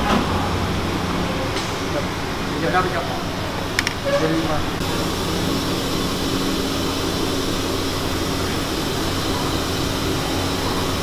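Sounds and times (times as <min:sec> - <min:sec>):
ventilation fan hum: 0:00.0 - 0:11.0.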